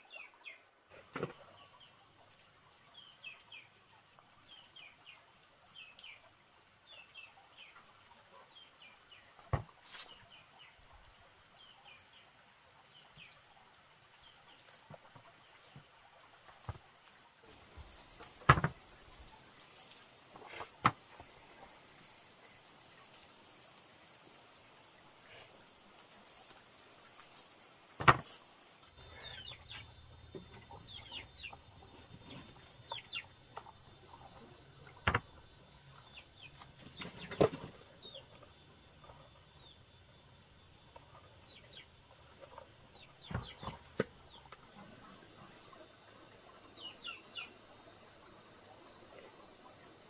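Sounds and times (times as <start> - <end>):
insect drone: 0.0 - 50.0
small birds chirping: 0.0 - 50.0.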